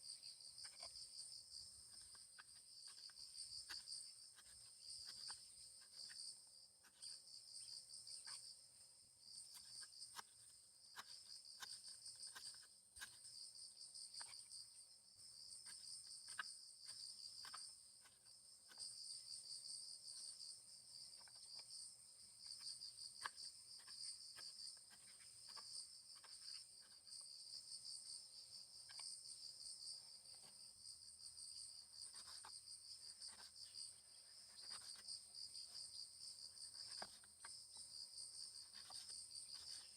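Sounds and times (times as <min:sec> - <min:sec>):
insects trilling: 0:00.0 - 0:39.9
faint clicks and taps: 0:00.5 - 0:08.6, 0:09.3 - 0:14.6, 0:15.5 - 0:21.8, 0:22.4 - 0:28.1, 0:28.8 - 0:39.9.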